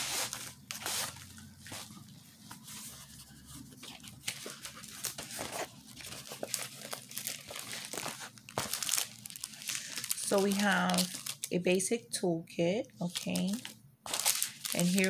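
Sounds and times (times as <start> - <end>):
plastic packaging crinkling: 0.0 - 11.8, 13.0 - 15.0.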